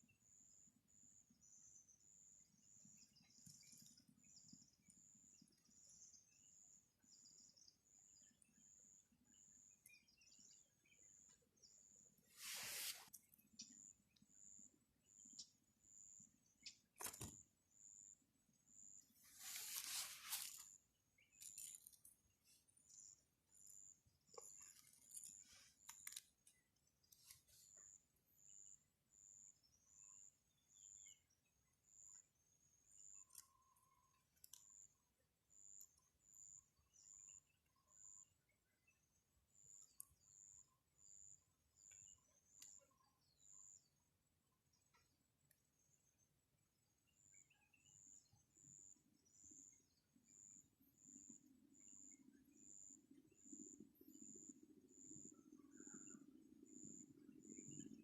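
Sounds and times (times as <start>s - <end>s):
faint high-pitched chirps: 0.0s - 58.0s.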